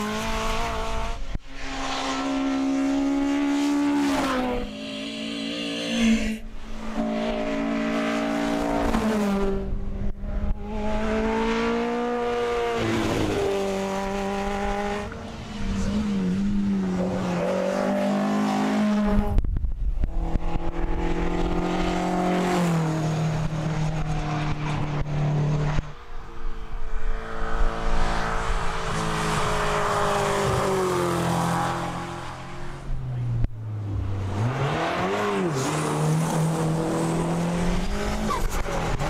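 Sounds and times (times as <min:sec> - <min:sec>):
racing car engines at full throttle: 0:00.0 - 0:39.0.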